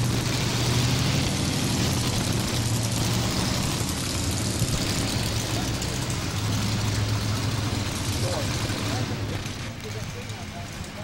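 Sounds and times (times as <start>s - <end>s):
truck engine running at low speed: 0.0s - 11.0s.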